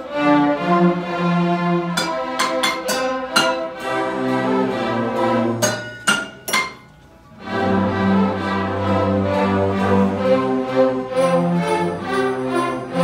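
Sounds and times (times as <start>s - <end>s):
string orchestra playing: 0.0s - 6.1s, 6.9s - 13.0s.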